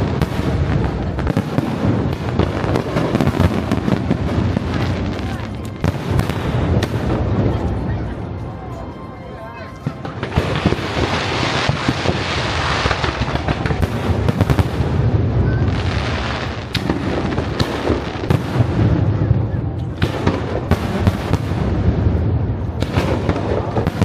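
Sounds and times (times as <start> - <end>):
fireworks bangs and crackles: 0.0 - 8.9, 9.7 - 24.0.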